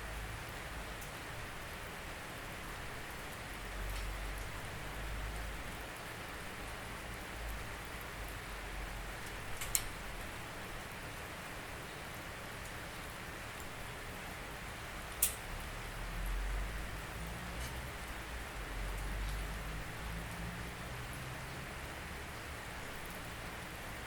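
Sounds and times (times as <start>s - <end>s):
rain on a surface: 0.0s - 24.0s.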